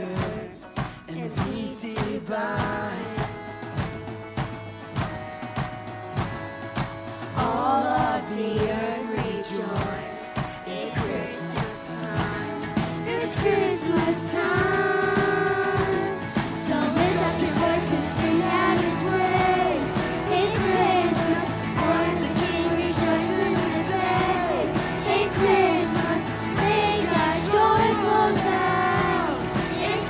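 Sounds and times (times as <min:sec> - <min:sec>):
worship song with band: 0:00.0 - 0:30.0.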